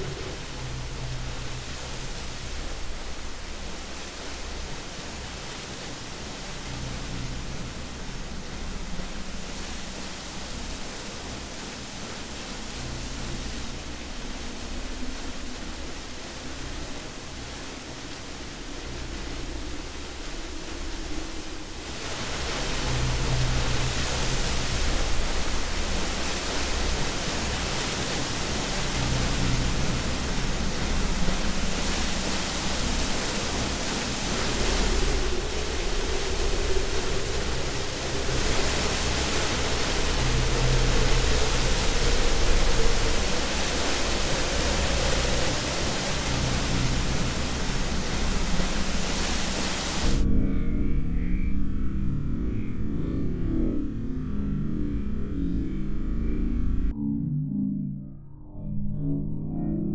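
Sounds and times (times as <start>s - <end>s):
waterfall rushing: 0.0s - 50.2s
faint low droning tones: 0.0s - 59.9s.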